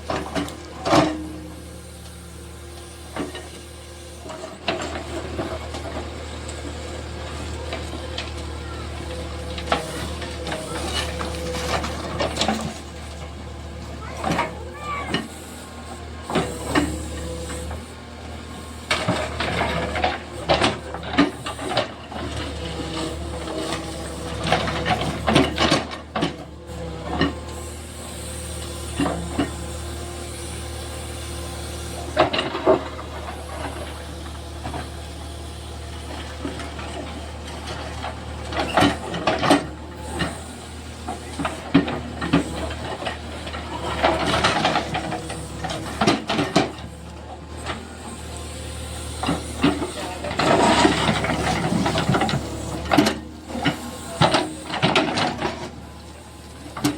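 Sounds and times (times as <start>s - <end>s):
backhoe engine running: 0.0s - 56.9s
digging knocks and clatter: 0.0s - 56.9s.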